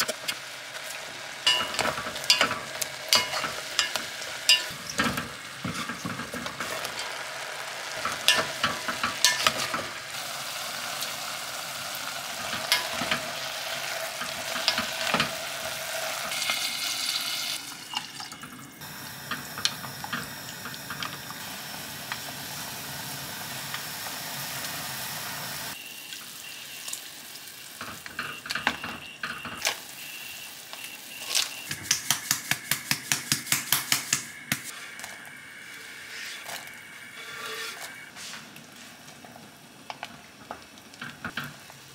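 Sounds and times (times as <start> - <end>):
soup sizzling and bubbling: 0.0 - 28.4, 29.6 - 41.9.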